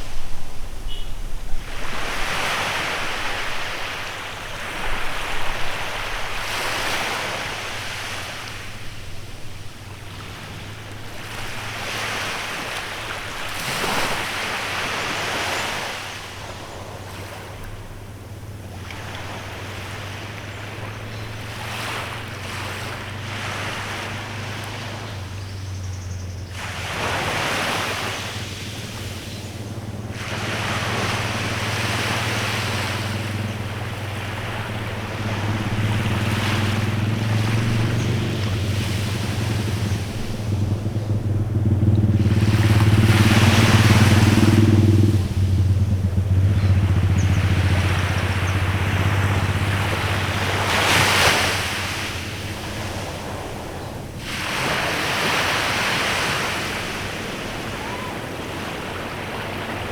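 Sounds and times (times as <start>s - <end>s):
low engine hum: 0.0s - 59.9s
small waves washing onto beach: 0.0s - 59.9s.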